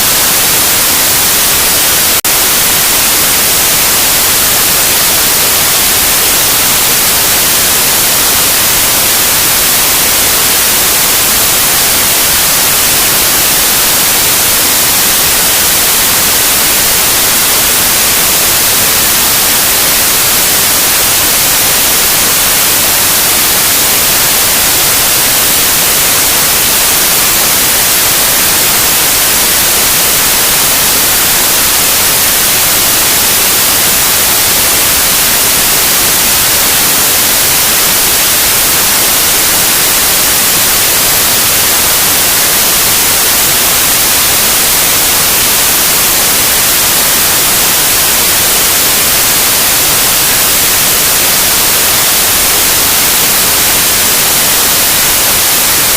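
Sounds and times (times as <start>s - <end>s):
steady white noise hiss: 0.0s - 55.9s.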